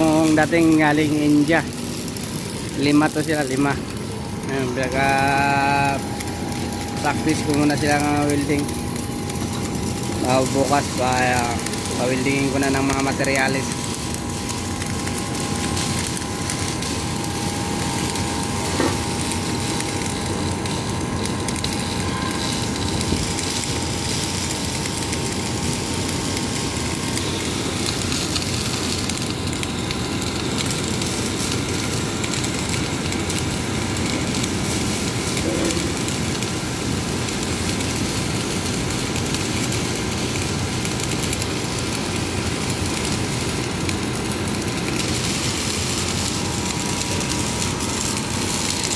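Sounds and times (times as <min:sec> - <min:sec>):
welding arcs crackling: 0:00.0 - 0:48.9.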